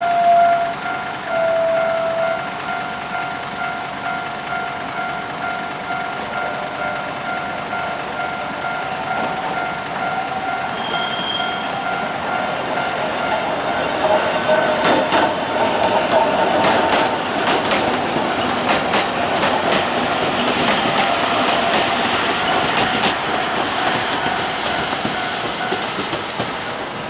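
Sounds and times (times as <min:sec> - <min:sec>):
electric train running: 0:00.0 - 0:27.0
level-crossing alarm ringing: 0:00.0 - 0:27.0.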